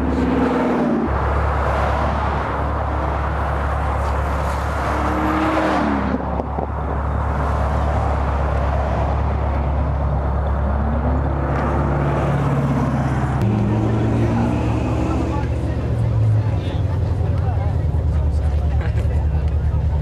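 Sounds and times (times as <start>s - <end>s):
car engine droning: 0.0s - 20.0s
road and wind noise: 0.0s - 20.0s.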